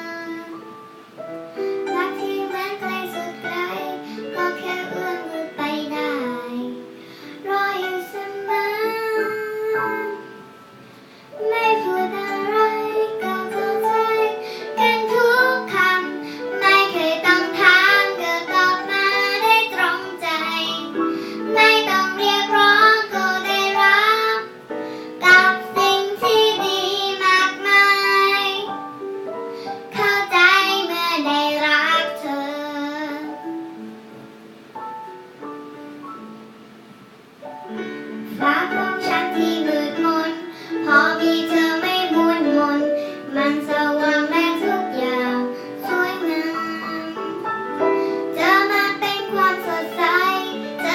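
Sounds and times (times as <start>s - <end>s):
child singing: 0.0s - 0.7s, 1.8s - 10.3s, 11.4s - 28.8s, 29.7s - 33.5s, 38.1s - 50.9s
instrumental backing: 0.0s - 50.9s.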